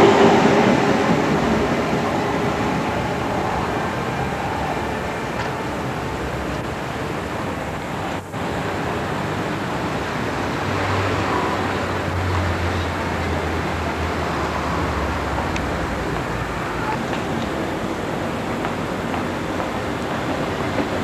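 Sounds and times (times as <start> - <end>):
electric train rumbling: 0.0 - 21.0
traffic rumble: 0.0 - 21.0.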